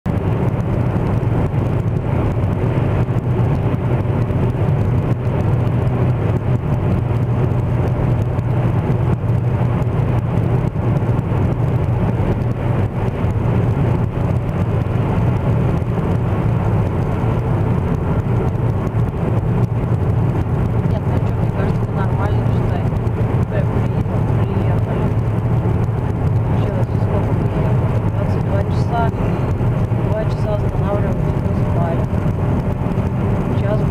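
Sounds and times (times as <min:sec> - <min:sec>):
low drone inside car cabin: 0:00.1 - 0:33.9.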